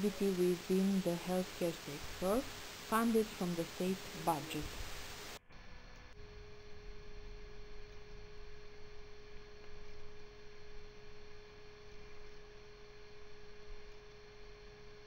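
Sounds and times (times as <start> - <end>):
faint steady electronic tone: 0.0 - 15.0.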